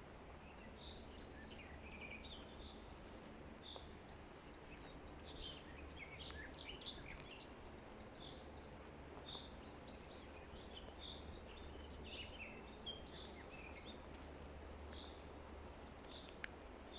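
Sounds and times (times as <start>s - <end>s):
faint background hiss: 0.0s - 16.9s
songbirds chirping and trilling: 0.0s - 16.9s.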